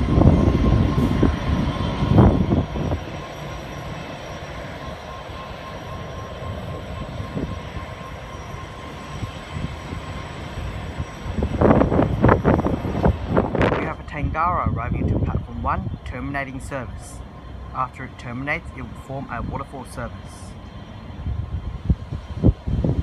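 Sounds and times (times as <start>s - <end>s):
faint constant whine: 0.0s - 23.0s
locomotives idling drone: 0.0s - 23.0s.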